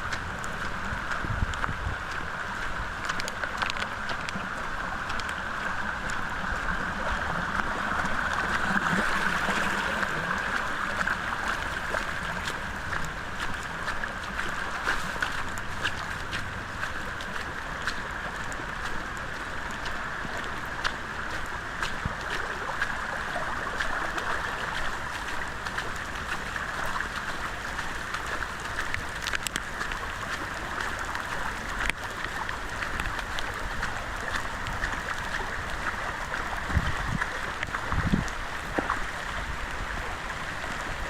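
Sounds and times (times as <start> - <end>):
water drips ticking: 0.0 - 40.8
rain rushing: 0.0 - 41.0
running water: 0.0 - 41.0.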